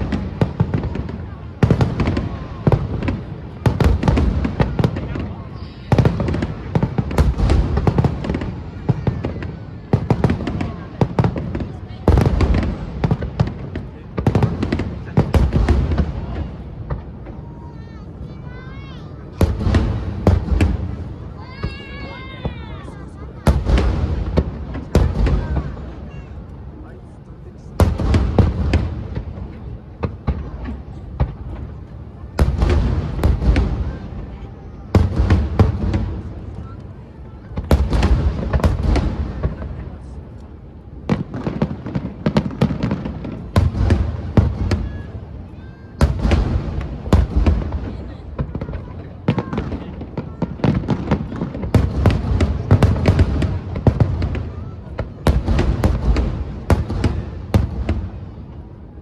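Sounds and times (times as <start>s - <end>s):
fireworks bursting with bangs: 0.0s - 59.0s.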